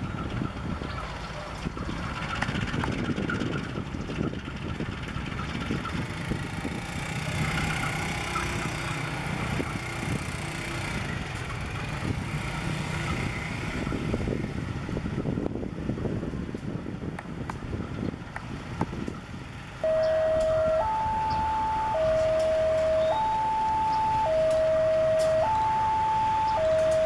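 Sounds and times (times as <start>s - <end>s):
diesel locomotive engine rumbling: 0.0s - 27.0s.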